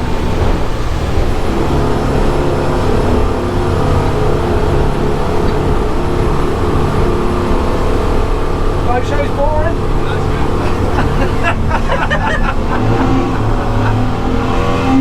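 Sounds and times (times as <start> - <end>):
outboard motors running hard: 0.0 - 15.0
rush of noise: 0.0 - 15.0.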